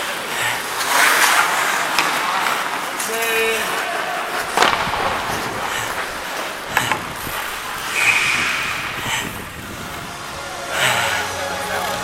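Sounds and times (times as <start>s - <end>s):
skates scraping on ice: 0.0s - 12.0s.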